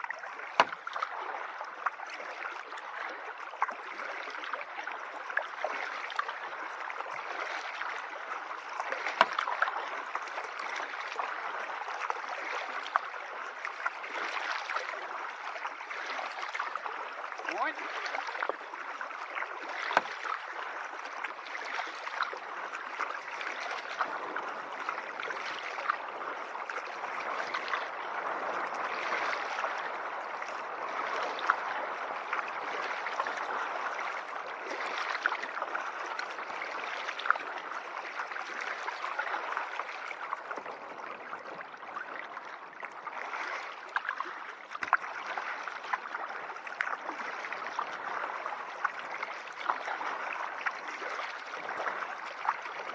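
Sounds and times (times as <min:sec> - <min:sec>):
small water splashes: 0:00.0 - 0:52.9
water lapping around kayak hull: 0:00.0 - 0:52.9.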